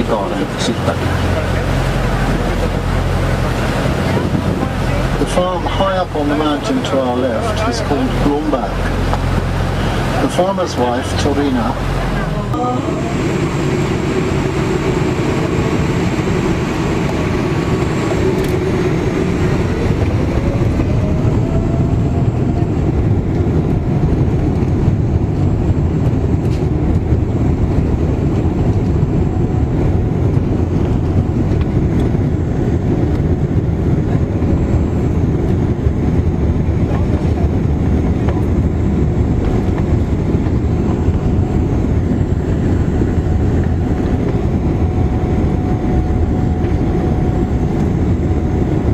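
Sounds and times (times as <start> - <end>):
ferry engines rumbling: 0.0 - 48.9.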